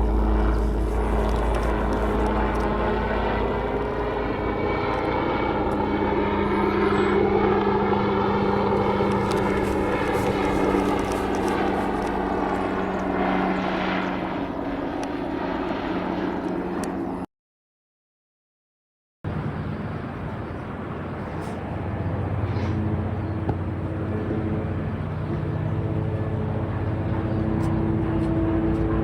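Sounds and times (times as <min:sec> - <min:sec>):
aircraft engine and propeller droning: 0:00.0 - 0:17.3, 0:19.3 - 0:29.0.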